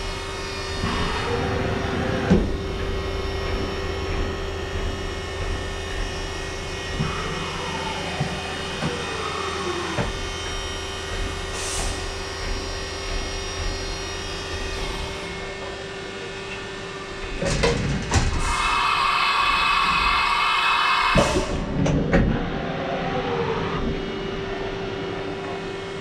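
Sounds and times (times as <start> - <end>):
machine electrical hum: 0.0 - 26.0.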